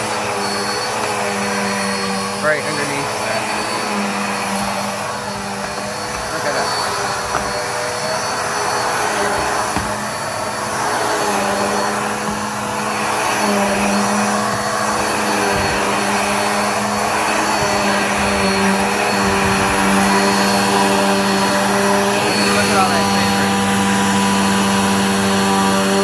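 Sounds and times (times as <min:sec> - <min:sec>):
upright vacuum cleaner running: 0:00.0 - 0:26.0.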